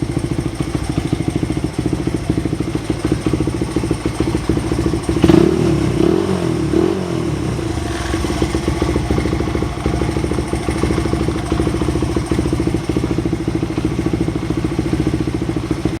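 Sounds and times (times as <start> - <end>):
scooter engine revving and idling: 0.0 - 16.0.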